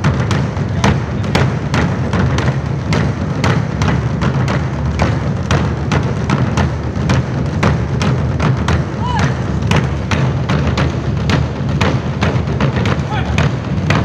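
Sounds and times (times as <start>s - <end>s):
barrel drums in driving rhythm: 0.0s - 14.0s.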